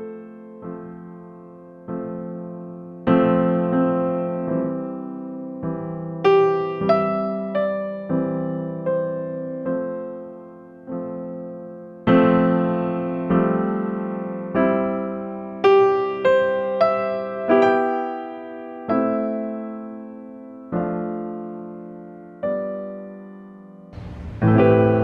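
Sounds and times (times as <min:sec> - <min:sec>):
slow electric piano music: 0:00.0 - 0:25.0.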